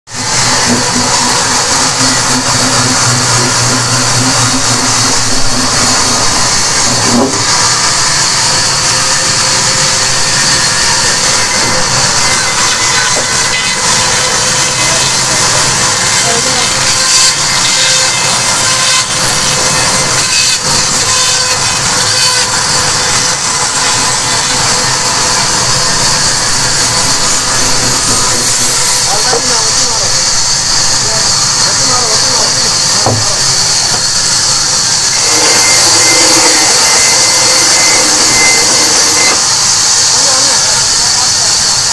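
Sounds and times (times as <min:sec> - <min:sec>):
band saw cutting log: 0:00.1 - 0:41.9
thin high whine: 0:00.1 - 0:41.9.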